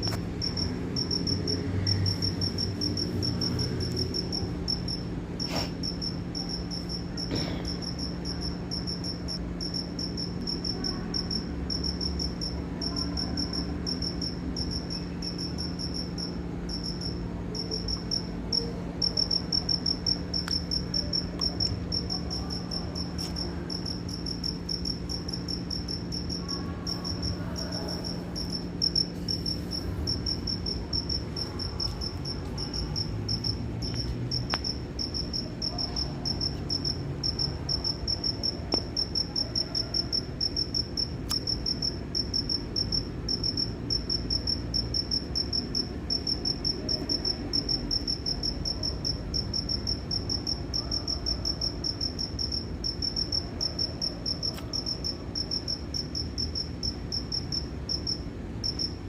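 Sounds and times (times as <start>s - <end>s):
cricket chirping: 0.0s - 59.0s
low steady hum: 0.0s - 59.0s.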